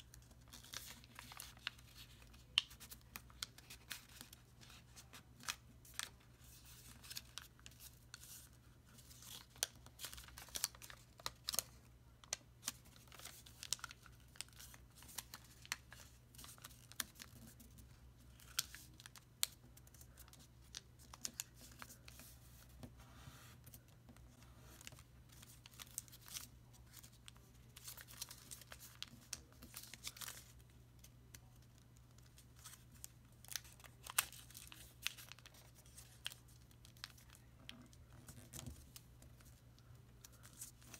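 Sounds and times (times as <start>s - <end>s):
paper being folded and creased: 0.0s - 30.5s, 31.7s - 39.6s.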